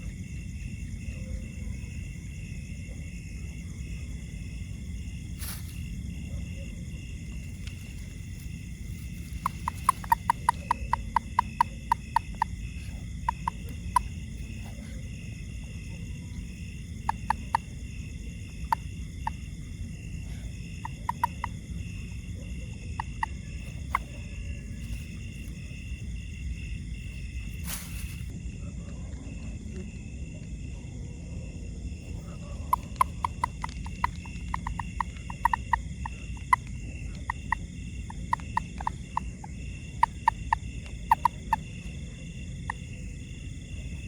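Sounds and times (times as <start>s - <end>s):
insect chorus: 0.0s - 44.0s
frog clicking calls: 4.4s - 28.3s, 32.1s - 44.0s.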